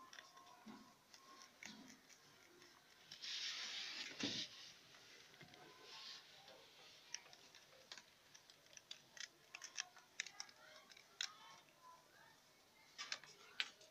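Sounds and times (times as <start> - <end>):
rabbits chewing leafy greens: 0.0 - 13.9.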